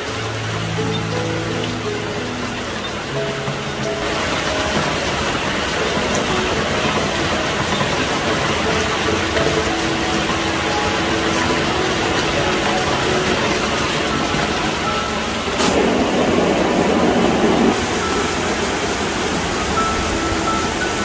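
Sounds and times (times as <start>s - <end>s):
heavy rain on leaves: 0.0s - 21.0s.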